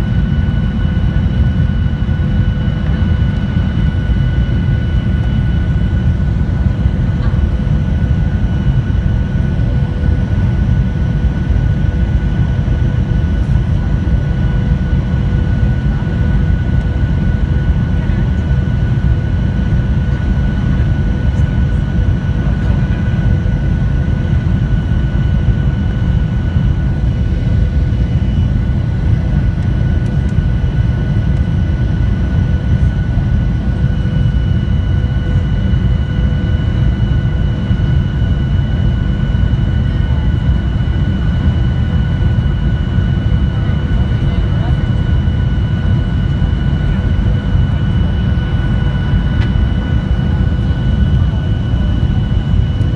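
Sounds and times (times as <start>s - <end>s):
airplane cabin engine rumble: 0.0s - 52.9s
faint steady whines: 0.0s - 52.9s.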